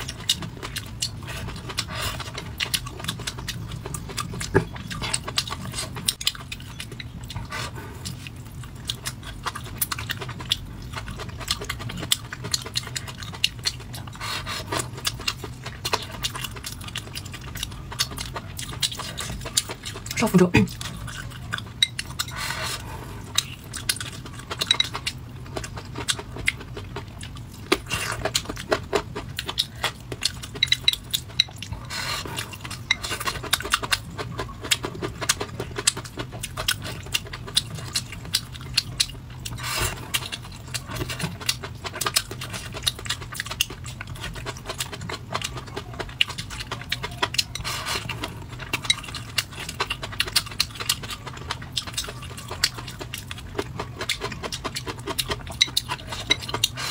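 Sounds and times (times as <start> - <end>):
low steady hum: 0.0 - 56.9
person chewing: 0.0 - 56.9.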